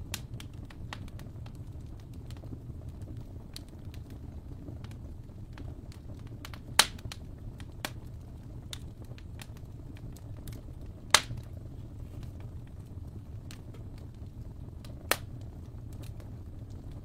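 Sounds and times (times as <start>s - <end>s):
fire crackling: 0.0s - 17.0s
loud pops of burning wood: 0.0s - 17.0s.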